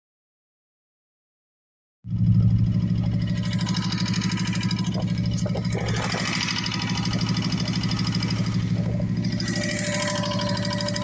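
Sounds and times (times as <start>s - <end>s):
motorcycle engine idling: 2.1s - 11.0s.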